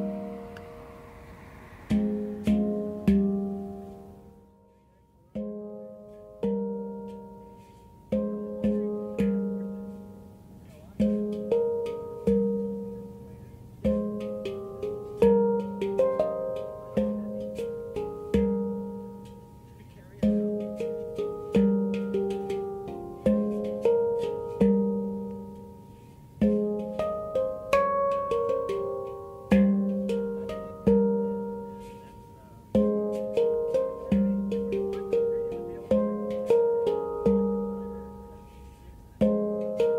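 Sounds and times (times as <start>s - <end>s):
handpan notes: 0.0s - 39.9s.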